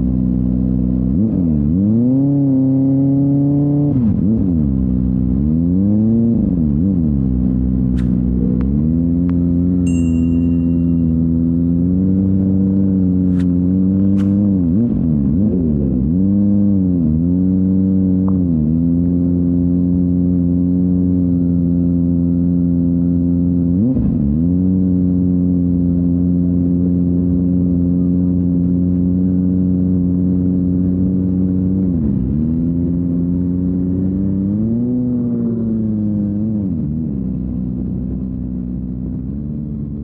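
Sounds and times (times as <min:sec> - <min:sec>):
motorcycle engine at high rpm: 0:00.0 - 0:40.0.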